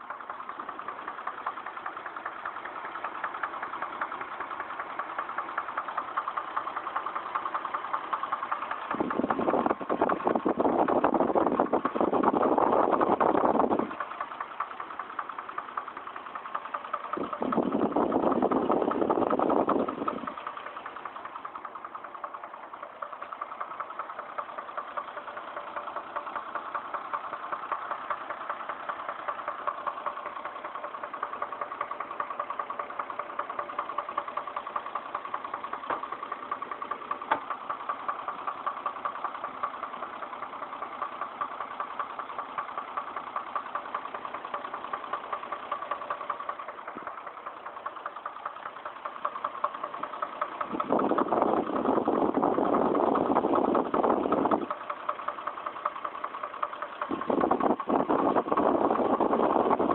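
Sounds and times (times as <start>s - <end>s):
engine running with rapid knocking: 0.0s - 59.9s.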